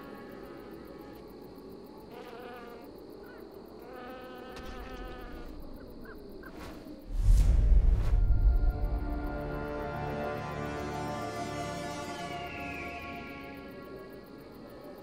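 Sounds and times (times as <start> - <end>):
wavering insect-like buzz: 0.0 - 15.0.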